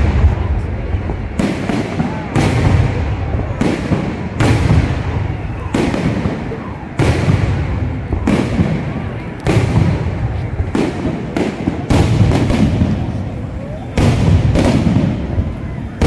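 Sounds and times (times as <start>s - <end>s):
aerial fireworks bursting: 0.0s - 16.0s.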